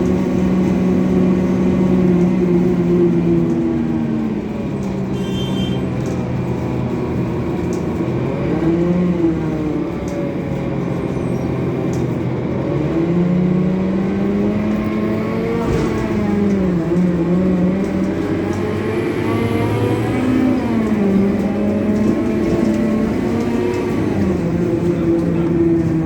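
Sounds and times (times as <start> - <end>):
coach diesel engine running: 0.0 - 26.0.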